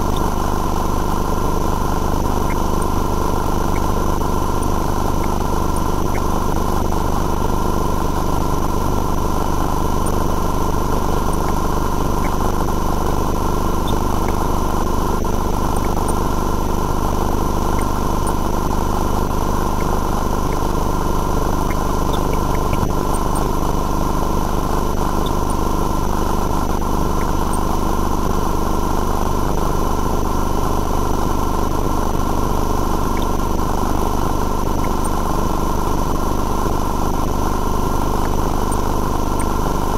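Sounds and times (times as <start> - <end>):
high-pitched whines: 0.0 - 39.9
machine hum: 0.0 - 39.9.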